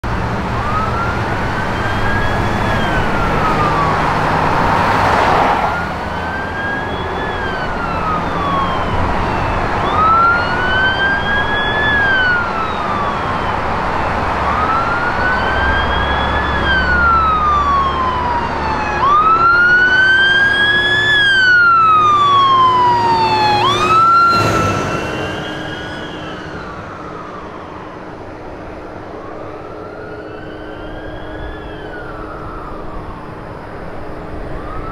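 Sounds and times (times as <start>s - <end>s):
fire truck siren wailing: 0.0s - 34.9s.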